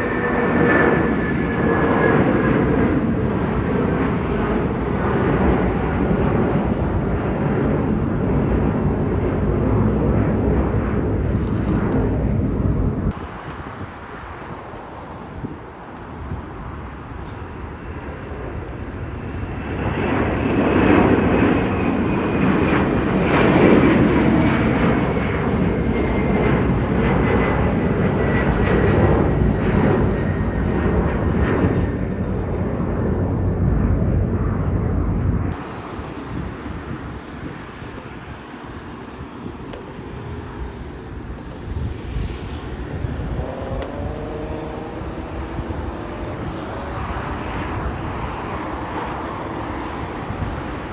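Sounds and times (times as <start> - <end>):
distant aircraft engine noise: 0.0 - 50.9
jet airliner passing: 0.0 - 50.9.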